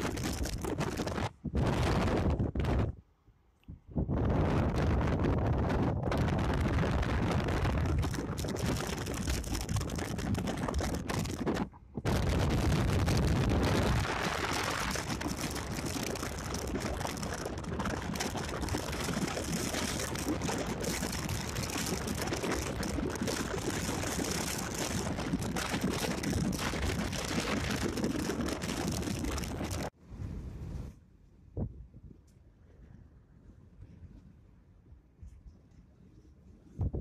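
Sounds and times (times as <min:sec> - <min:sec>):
wind buffeting microphone: 0:00.0 - 0:03.0, 0:03.7 - 0:37.0
road noise: 0:00.0 - 0:35.2.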